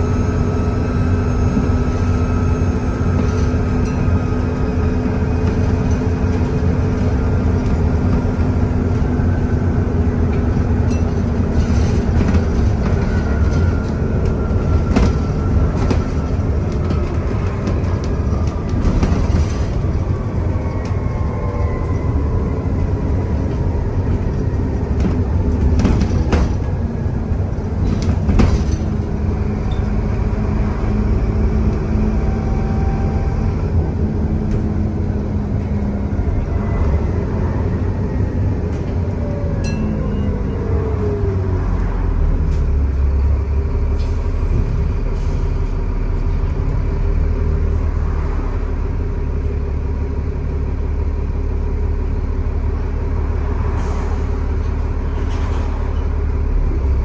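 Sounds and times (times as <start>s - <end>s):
bus body rattling: 0.0s - 57.0s
bus engine drone: 0.0s - 57.0s.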